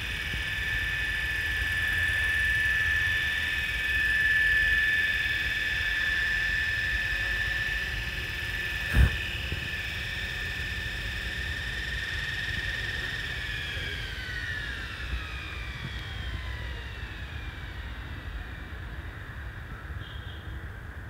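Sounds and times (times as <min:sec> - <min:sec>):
helicopter rotor whine spinning down: 0:00.0 - 0:19.7.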